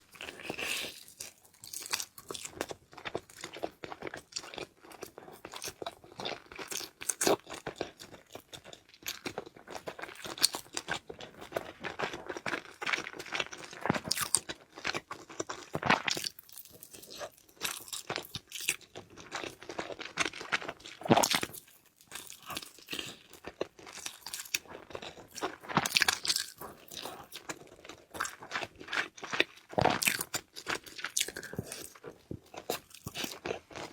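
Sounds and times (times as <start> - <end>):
person chewing crunchy food: 0.0 - 33.9.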